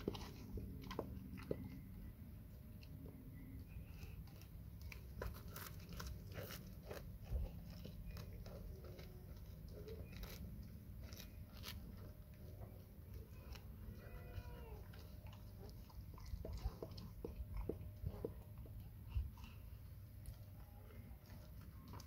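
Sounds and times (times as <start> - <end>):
dog chewing crunchy bread: 0.0 - 22.0.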